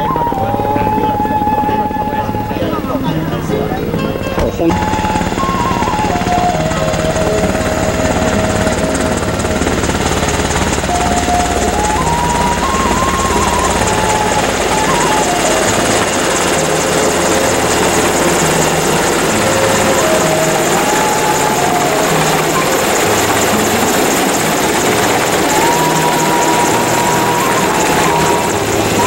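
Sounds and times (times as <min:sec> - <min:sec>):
helicopter running: 0:00.0 - 0:29.0.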